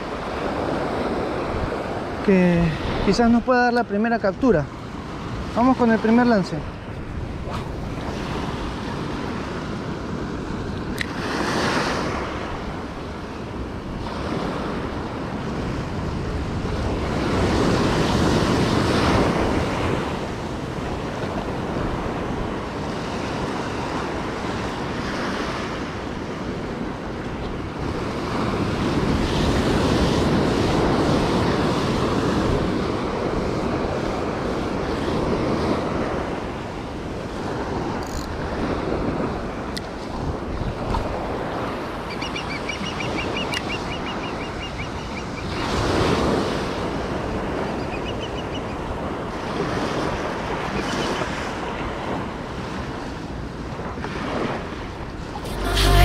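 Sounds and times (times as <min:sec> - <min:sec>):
wind buffeting microphone: 0:00.0 - 0:55.5
small waves breaking on beach: 0:00.0 - 0:56.0.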